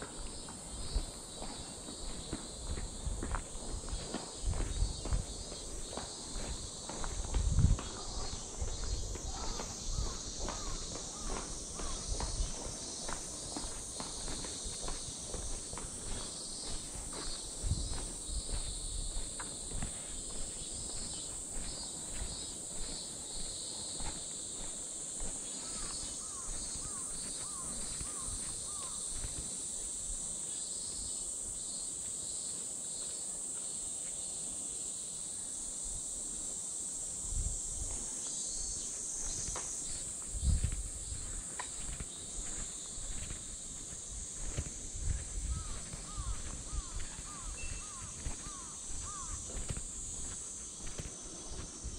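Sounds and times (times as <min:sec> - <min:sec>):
footsteps walking: 0:00.0 - 0:30.0, 0:37.8 - 0:51.9
cicadas chorus: 0:00.0 - 0:51.9.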